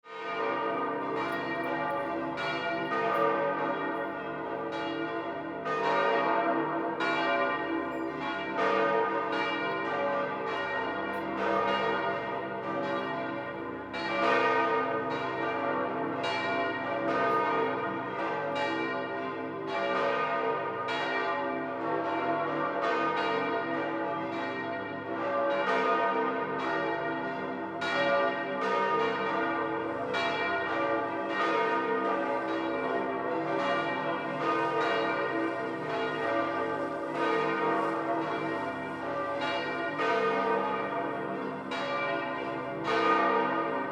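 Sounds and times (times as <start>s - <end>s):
church bells pealing: 0.1s - 43.9s.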